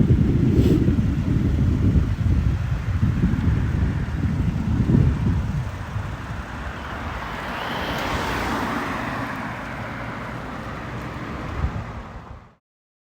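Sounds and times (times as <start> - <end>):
vehicle passing on road: 0.0 - 12.6
wind rumbling on microphone: 0.0 - 12.6.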